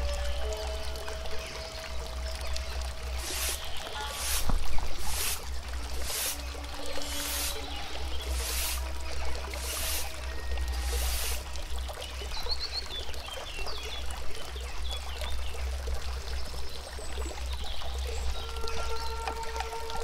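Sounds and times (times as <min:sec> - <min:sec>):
water trickling and pouring: 0:00.0 - 0:20.0.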